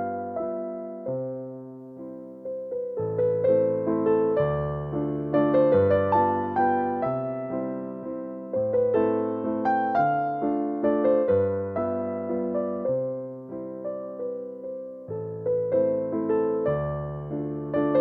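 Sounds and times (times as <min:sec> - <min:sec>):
electric piano melody: 0:00.0 - 0:18.0.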